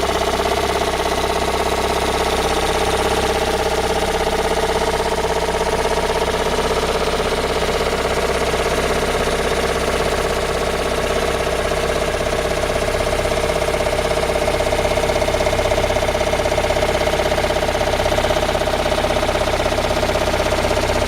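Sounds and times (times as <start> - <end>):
petrol engine idling: 0.0 - 21.0
rhythmic engine knock: 0.0 - 21.0.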